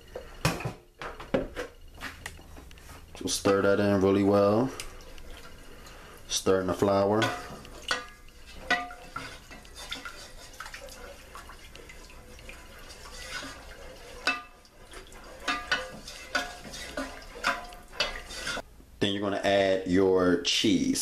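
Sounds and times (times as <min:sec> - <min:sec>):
wooden spoon stirring sauce: 0:01.4 - 0:18.7.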